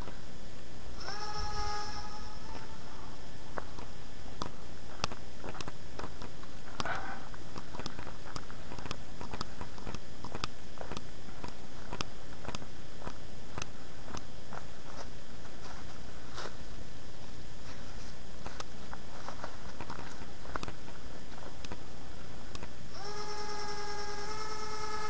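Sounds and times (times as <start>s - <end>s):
low background noise: 0.0s - 25.0s
footsteps on leaves and twigs: 1.0s - 23.1s.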